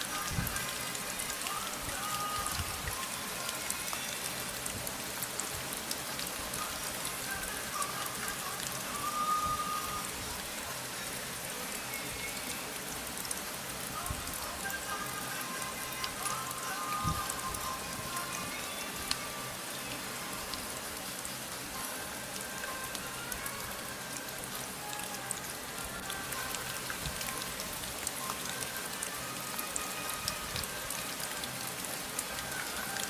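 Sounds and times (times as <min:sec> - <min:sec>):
steady rain falling: 0:00.0 - 0:33.0
raindrop ticks: 0:00.1 - 0:10.5, 0:11.9 - 0:33.0.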